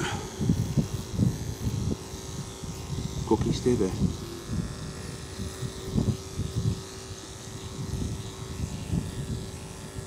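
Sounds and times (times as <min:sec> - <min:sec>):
electric clippers humming: 0:00.0 - 0:10.0.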